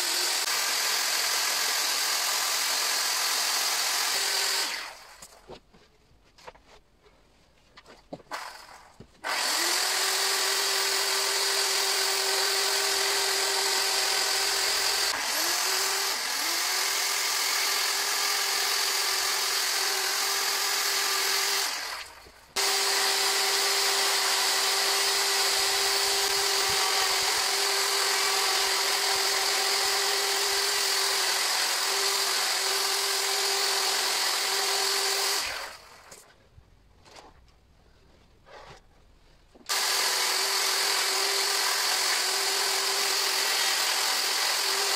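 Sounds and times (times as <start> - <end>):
electric chainsaw cutting wood: 0.0 - 5.4, 8.2 - 36.2, 39.7 - 44.9.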